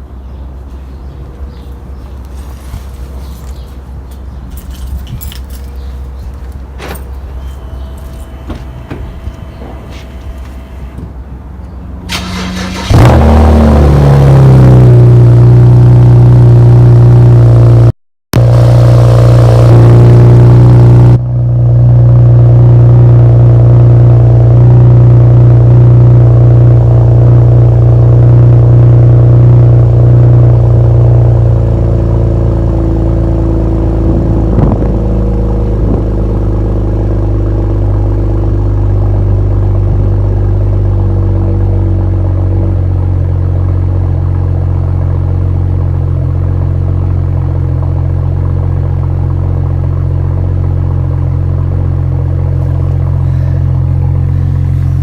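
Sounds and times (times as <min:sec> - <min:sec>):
car engine starting and idling: 0:00.0 - 0:55.0.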